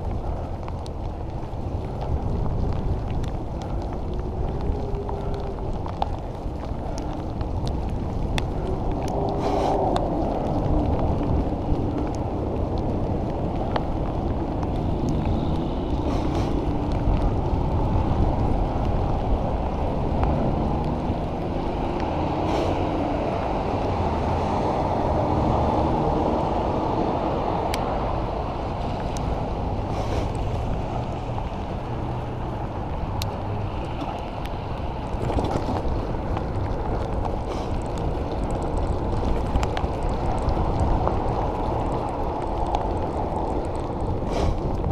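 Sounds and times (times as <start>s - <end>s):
wind rush on microphone: 0.0s - 44.9s.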